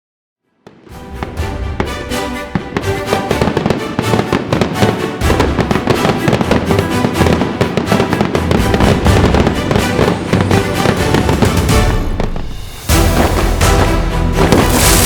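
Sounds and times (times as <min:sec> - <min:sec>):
fireworks crackling and popping: 0:00.6 - 0:15.0
music playing: 0:00.9 - 0:15.0.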